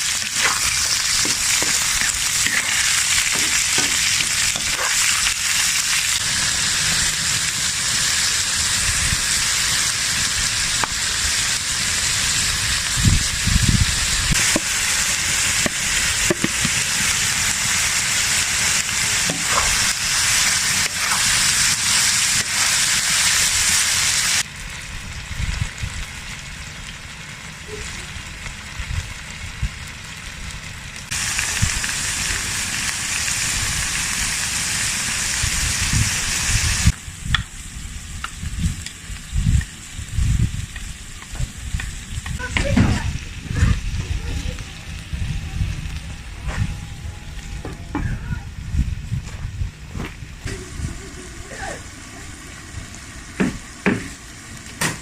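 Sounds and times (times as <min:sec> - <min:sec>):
offal sizzling in hot fat: 0:00.0 - 0:47.6, 0:50.2 - 0:55.0.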